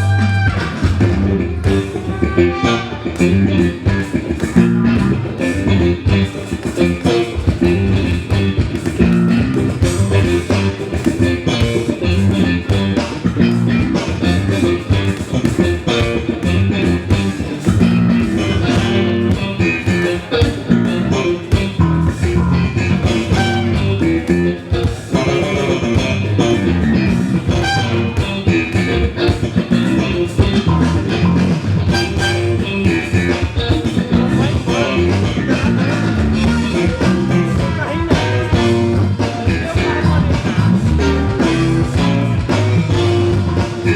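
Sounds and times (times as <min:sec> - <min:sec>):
bass guitar: 0:00.0 - 0:43.9
drum kit: 0:00.0 - 0:43.9
guitar: 0:00.0 - 0:43.9.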